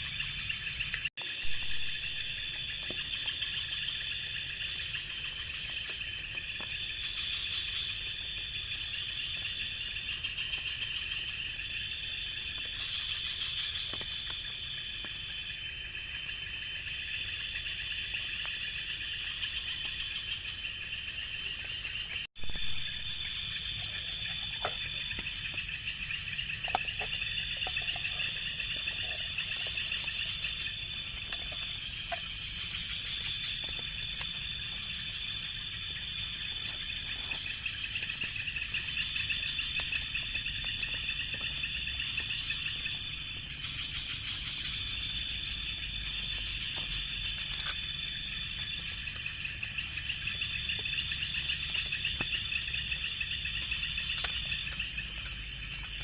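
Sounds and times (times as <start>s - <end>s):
insect chorus trilling and buzzing: 0.0s - 56.0s.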